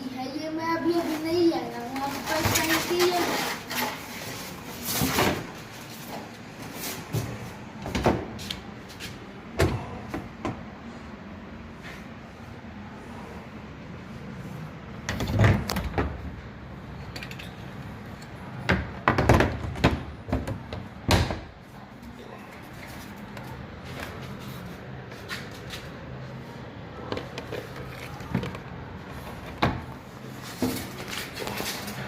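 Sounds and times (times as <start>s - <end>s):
washing machine humming: 0.0s - 32.0s.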